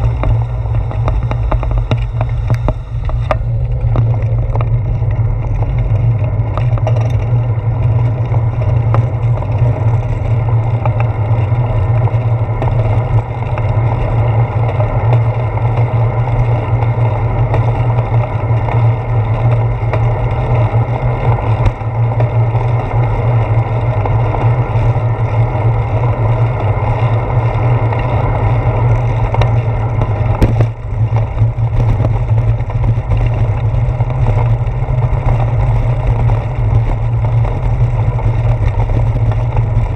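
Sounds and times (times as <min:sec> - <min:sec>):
bicycle tyres hissing on wet pavement: 0:00.0 - 0:39.9
wind rumble on microphone: 0:00.0 - 0:39.9.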